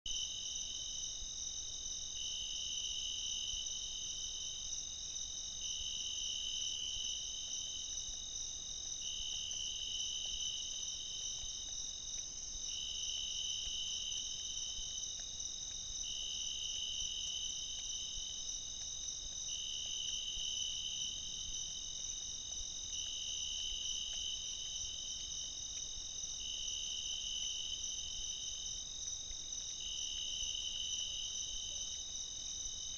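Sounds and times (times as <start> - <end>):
crickets trilling: 0.1 - 32.9
lower insect trill: 0.1 - 32.9.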